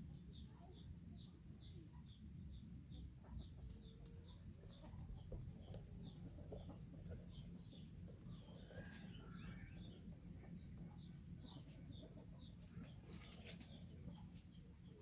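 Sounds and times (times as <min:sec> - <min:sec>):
chickens clucking: 0:02.9 - 0:15.0.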